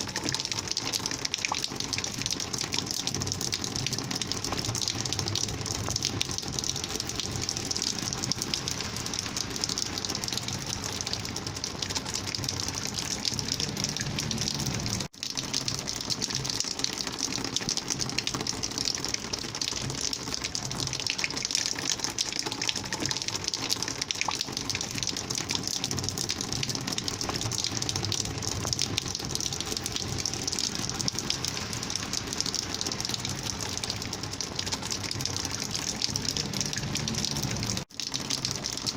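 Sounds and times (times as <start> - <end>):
rainwater gushing: 0.0 - 38.9.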